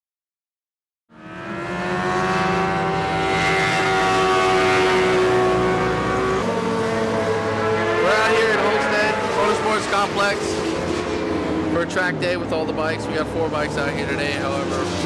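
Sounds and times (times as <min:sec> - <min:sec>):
racing engine at high revs: 0:01.1 - 0:15.0.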